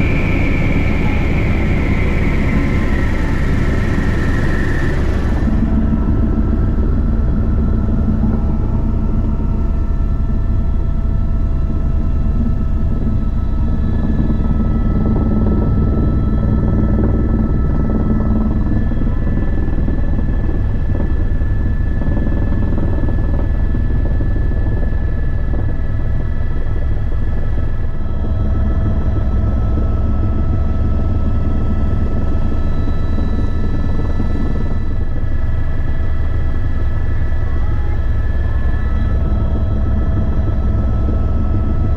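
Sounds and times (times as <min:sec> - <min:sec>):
helicopter running: 0:00.0 - 0:41.9.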